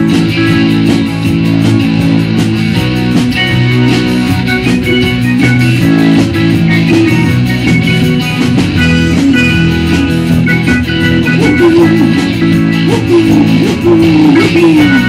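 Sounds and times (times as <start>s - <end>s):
bass guitar: 0.0s - 15.0s
electric guitar: 0.0s - 15.0s
keyboard: 0.0s - 15.0s
steady drum beat: 0.0s - 15.0s.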